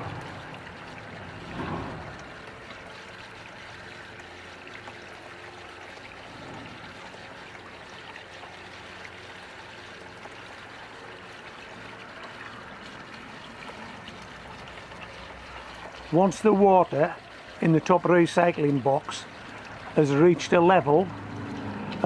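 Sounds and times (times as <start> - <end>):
water trickling into a box: 0.0 - 22.0.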